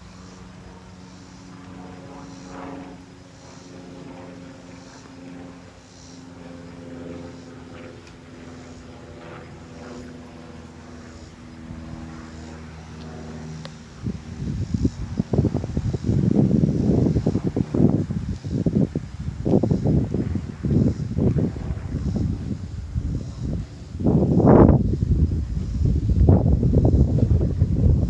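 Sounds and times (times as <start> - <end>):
engine droning: 0.0 - 27.6.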